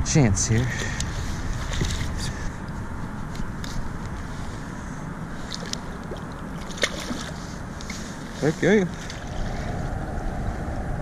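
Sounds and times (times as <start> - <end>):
wind: 0.0 - 11.0
water around a kayak: 0.1 - 11.0.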